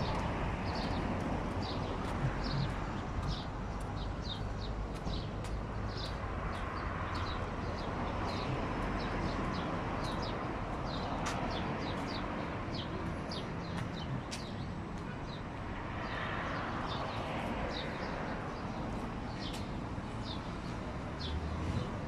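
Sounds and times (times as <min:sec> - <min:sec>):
road traffic hum: 0:00.0 - 0:22.0
small birds chirping: 0:00.0 - 0:22.0.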